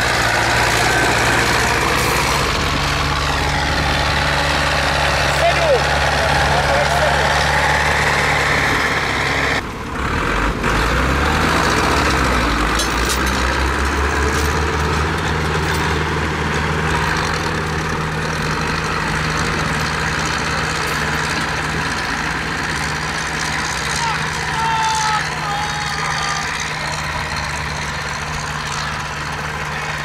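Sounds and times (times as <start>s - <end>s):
tractor diesel engines idling: 0.0s - 30.0s.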